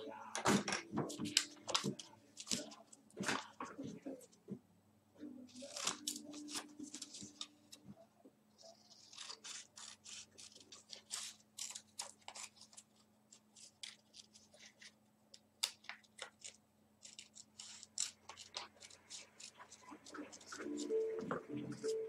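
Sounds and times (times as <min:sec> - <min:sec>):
scissors snipping paper: 0:00.0 - 0:04.3, 0:05.4 - 0:07.8, 0:08.6 - 0:22.0.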